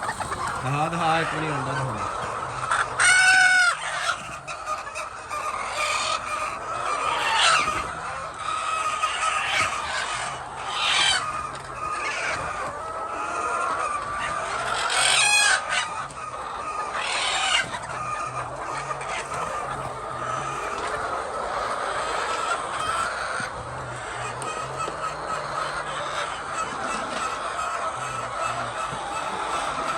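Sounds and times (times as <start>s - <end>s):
hens clucking: 0.0s - 29.9s
sharp hen squawks: 0.0s - 29.9s.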